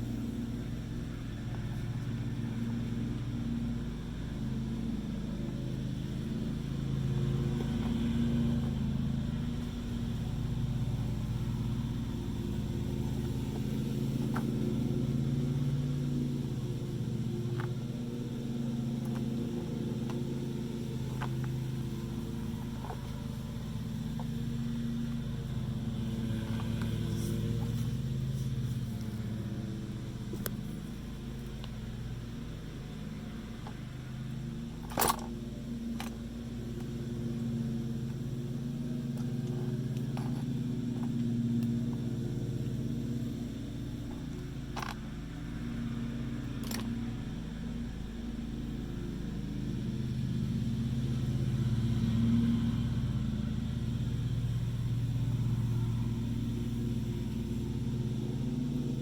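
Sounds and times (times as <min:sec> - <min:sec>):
engine droning hum: 0:00.0 - 0:59.0.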